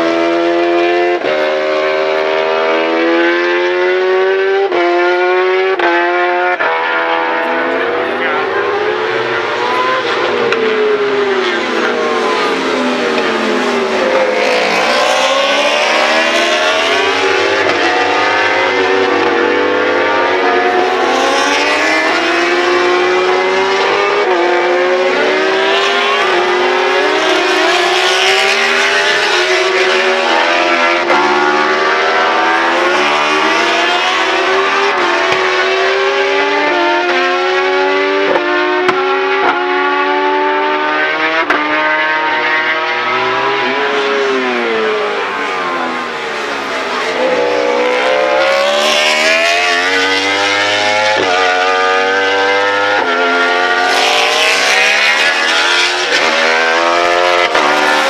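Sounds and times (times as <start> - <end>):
racing motorcycles accelerating: 0.0 - 58.0.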